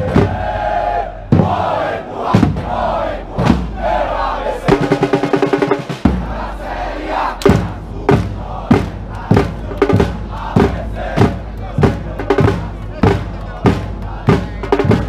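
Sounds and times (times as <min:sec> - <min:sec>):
bass drum beat: 0:00.0 - 0:15.0
football supporters chanting: 0:00.0 - 0:15.0.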